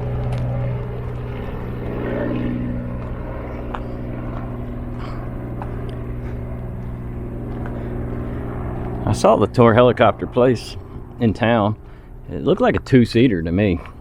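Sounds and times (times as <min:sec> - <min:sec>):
helicopter droning overhead: 0:00.0 - 0:14.0.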